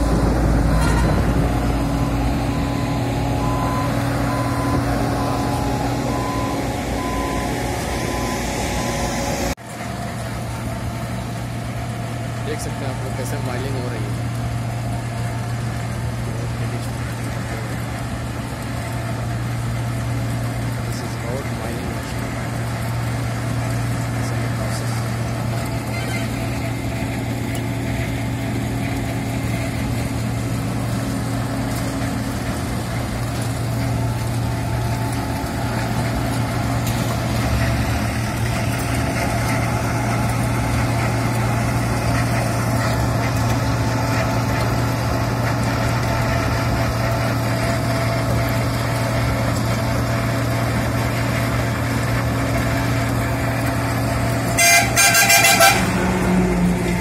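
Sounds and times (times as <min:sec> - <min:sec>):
cutting drum grinding asphalt: 0:00.0 - 0:57.0
engine drone: 0:00.0 - 0:57.0.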